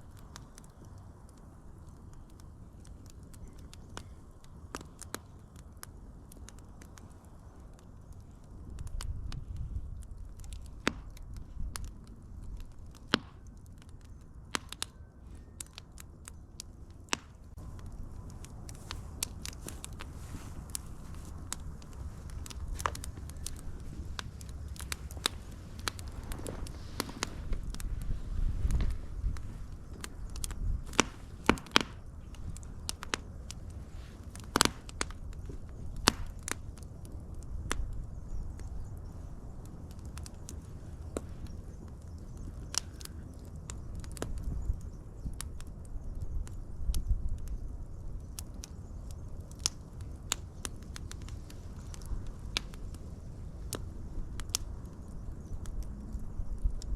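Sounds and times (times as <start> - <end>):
low rumble of burning: 0.0 - 56.9
wood fire crackling: 0.0 - 56.9.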